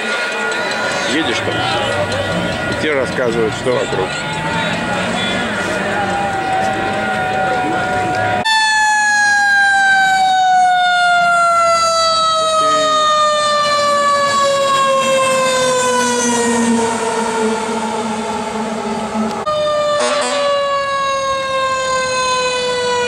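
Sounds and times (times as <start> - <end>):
fire truck siren wailing: 0.0 - 23.0.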